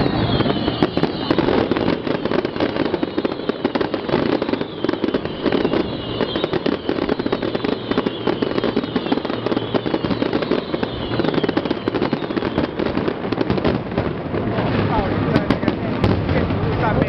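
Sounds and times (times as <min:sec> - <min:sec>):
high falling firework whistle: 0:00.0 - 0:13.9
fireworks crackling and popping: 0:00.0 - 0:17.0.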